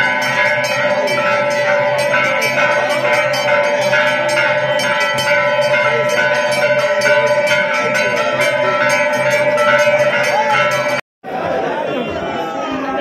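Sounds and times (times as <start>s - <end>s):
bells ringing rapidly: 0.0s - 11.0s.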